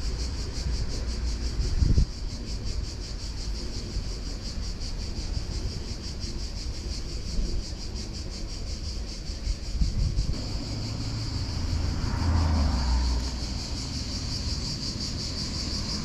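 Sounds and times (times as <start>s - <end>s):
insects chirping: 0.0s - 16.0s
wind rumble on microphone: 0.0s - 16.0s.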